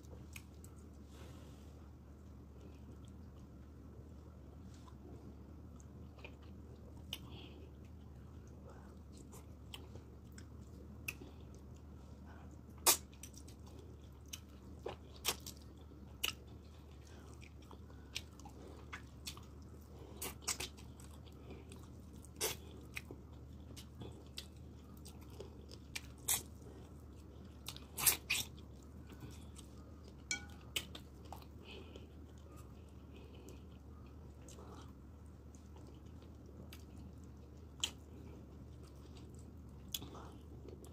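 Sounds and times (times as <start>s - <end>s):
person chewing: 0.0s - 1.1s, 2.2s - 40.9s.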